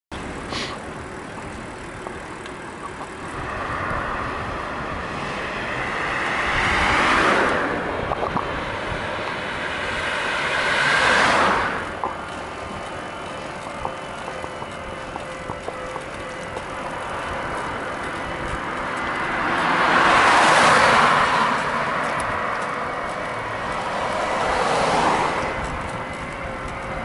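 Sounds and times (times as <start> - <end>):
cars passing close by: 0.1 - 27.0
steady road rumble: 0.1 - 27.0.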